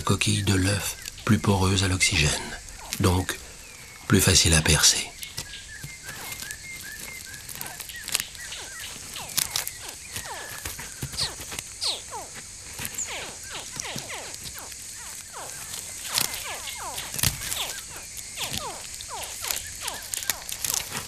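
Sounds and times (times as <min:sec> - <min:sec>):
crocodile hatchlings chirping: 0:00.0 - 0:21.0
sharp clicks: 0:02.4 - 0:21.0.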